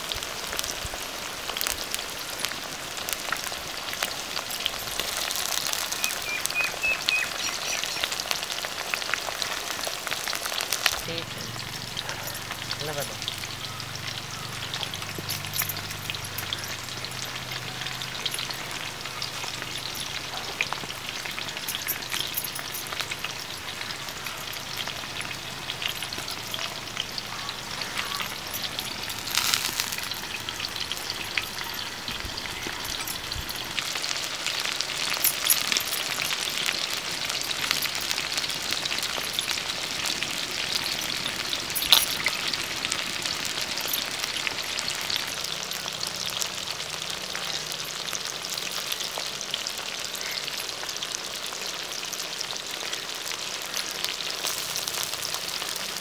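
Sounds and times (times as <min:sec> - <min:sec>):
food frying in hot oil: 0:00.0 - 0:56.0.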